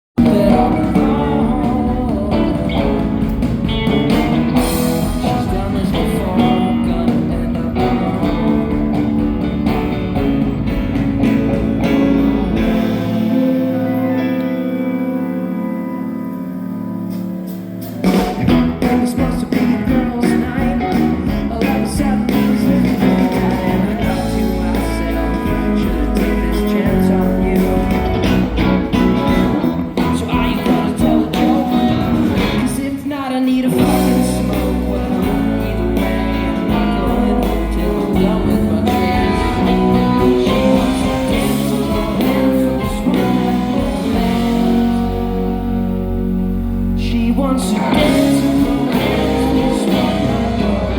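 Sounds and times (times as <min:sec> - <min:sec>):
live band playing: 0:00.2 - 0:50.9.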